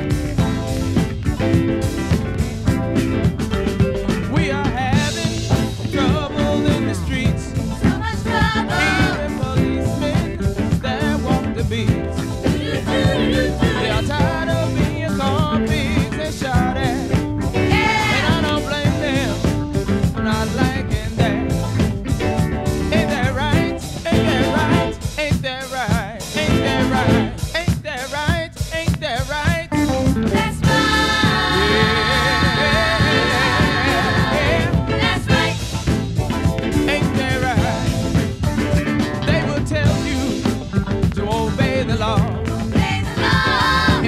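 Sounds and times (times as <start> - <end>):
funk disco song with singer: 0.0 - 44.0.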